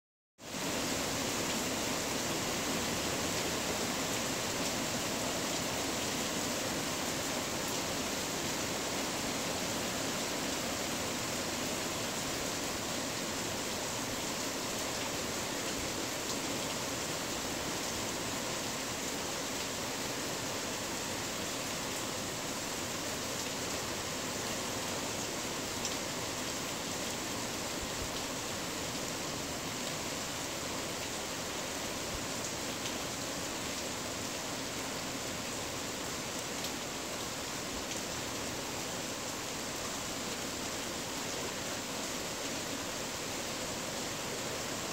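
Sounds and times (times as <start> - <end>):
rain on a tin roof: 0.4 - 44.9.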